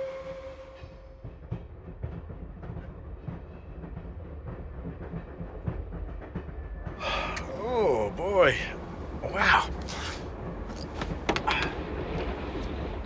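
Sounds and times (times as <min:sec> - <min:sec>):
train low rumble: 0:00.0 - 0:13.0
wheels clicking over rail joints: 0:01.2 - 0:13.0.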